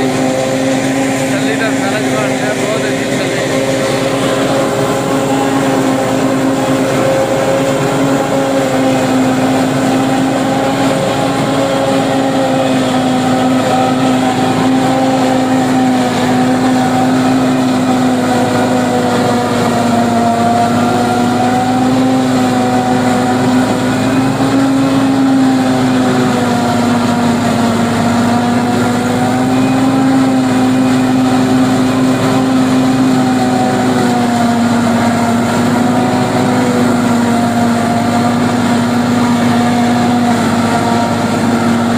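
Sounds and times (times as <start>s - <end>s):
forage harvester droning: 0.0s - 41.9s.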